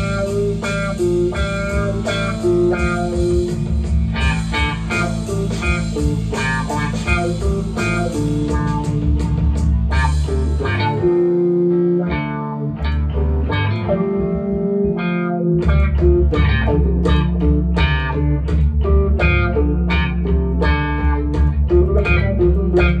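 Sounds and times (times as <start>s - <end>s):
backing track: 0.0s - 23.0s
deep bass line: 0.0s - 23.0s
electric guitar picked melody: 0.0s - 23.0s.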